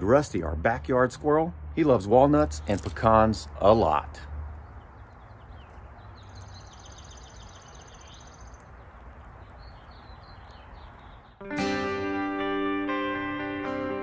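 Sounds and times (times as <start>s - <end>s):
outdoor ambience: 0.0s - 14.0s.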